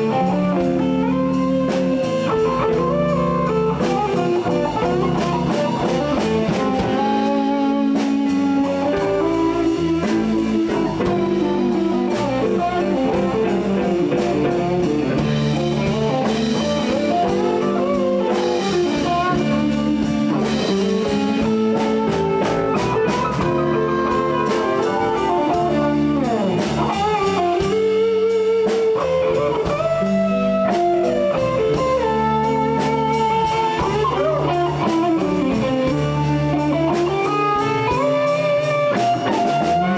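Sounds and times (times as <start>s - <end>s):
blues band playing: 0.0s - 39.9s
electric guitars bending notes: 0.0s - 39.9s.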